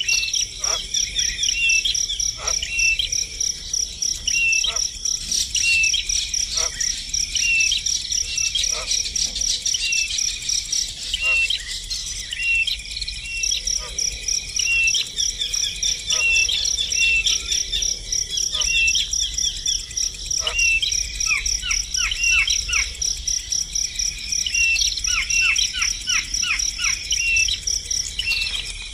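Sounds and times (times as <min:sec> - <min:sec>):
pulsing insect trill: 0:00.0 - 0:28.9
small birds chirping: 0:00.0 - 0:28.9.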